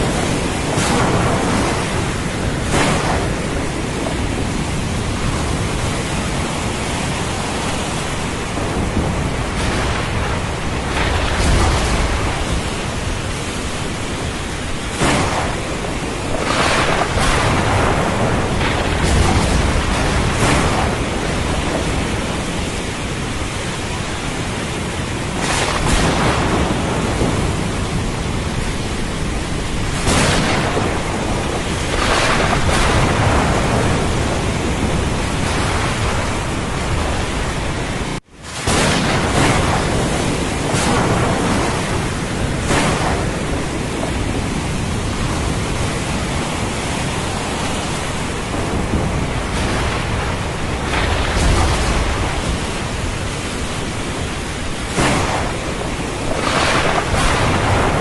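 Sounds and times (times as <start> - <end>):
heavy rain: 0.0 - 58.0
ocean surf: 0.0 - 58.0
thunder rumbling: 0.0 - 58.0.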